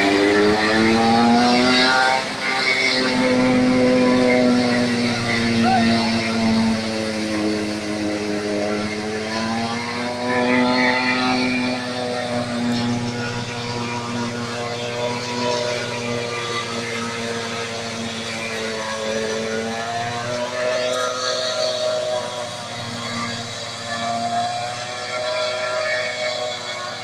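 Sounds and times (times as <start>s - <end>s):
forage chopper engine drone: 0.0s - 27.0s.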